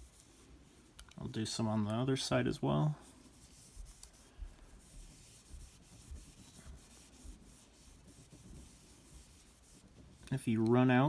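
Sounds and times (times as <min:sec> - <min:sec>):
cloth rubbing on plastic: 0:00.0 - 0:11.0.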